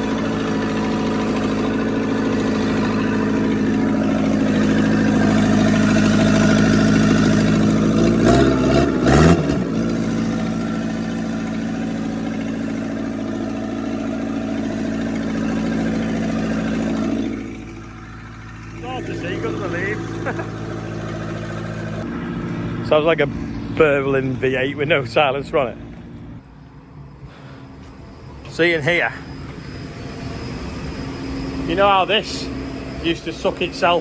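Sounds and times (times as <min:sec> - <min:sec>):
engine running without exhaust: 0:00.0 - 0:34.0.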